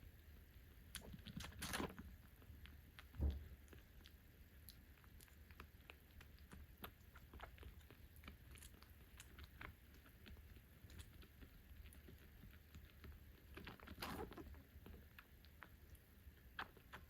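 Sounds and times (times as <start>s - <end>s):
kitten sucking and chewing: 0.0s - 17.0s.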